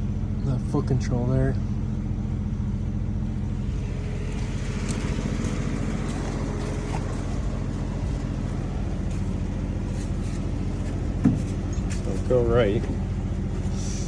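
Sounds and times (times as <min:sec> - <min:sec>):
heavy equipment engine idling: 0:00.0 - 0:14.0.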